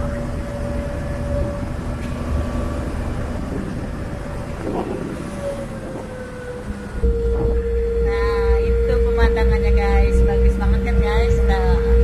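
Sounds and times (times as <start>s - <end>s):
ferry engines humming: 0.0s - 12.0s.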